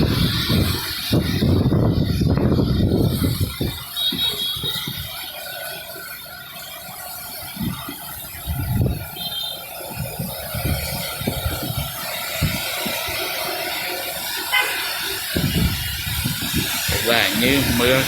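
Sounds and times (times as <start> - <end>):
wind buffeting microphone: 0.0 - 5.2, 7.4 - 9.2, 9.8 - 18.0
rain hissing: 0.0 - 18.0.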